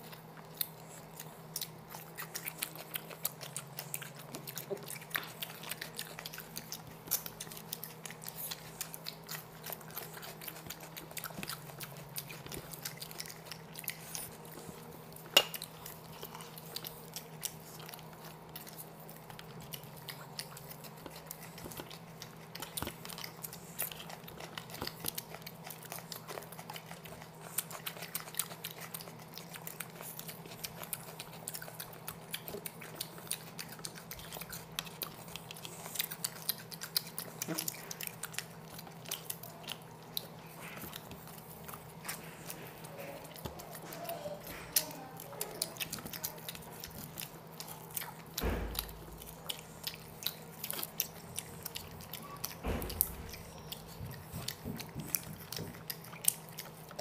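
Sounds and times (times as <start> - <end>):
steady low hum: 0.0 - 57.0
wet chewing with clicks: 0.0 - 57.0.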